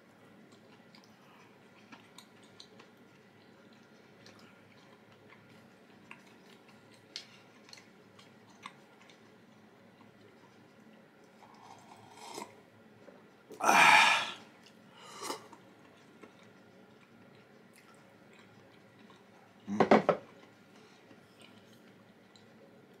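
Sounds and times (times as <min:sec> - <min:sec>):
person chewing softly: 0:00.0 - 0:23.0.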